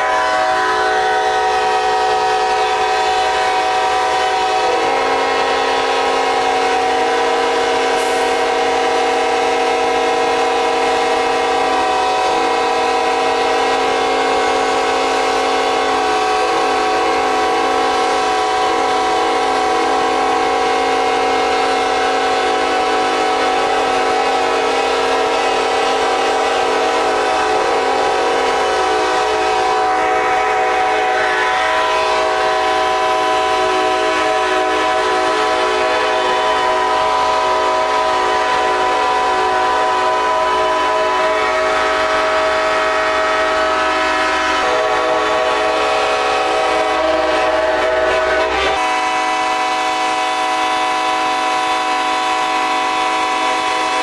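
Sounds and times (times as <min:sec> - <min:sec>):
locomotive air horns chord: 0:00.0 - 0:54.0.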